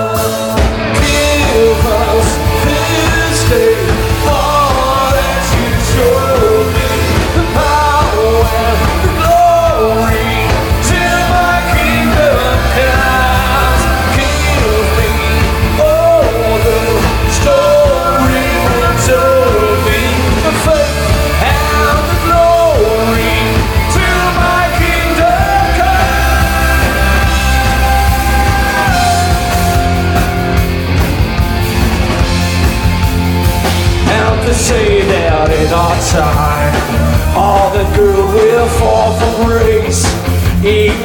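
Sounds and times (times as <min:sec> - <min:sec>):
singer: 0:00.0 - 0:31.0, 0:34.0 - 0:41.0
drums: 0:00.0 - 0:41.0
electric guitar: 0:00.0 - 0:41.0
heavy bass: 0:00.0 - 0:41.0.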